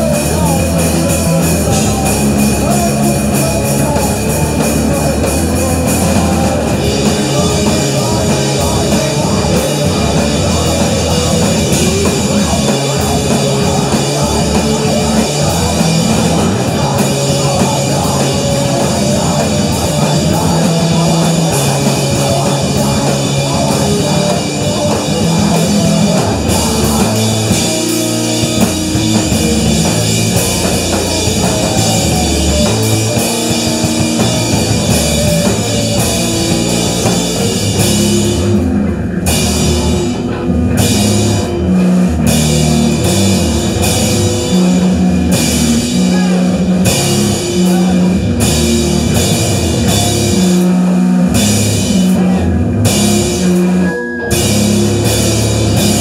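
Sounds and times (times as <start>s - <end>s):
distorted electric guitar: 0.0s - 56.0s
drum kit playing: 0.0s - 56.0s.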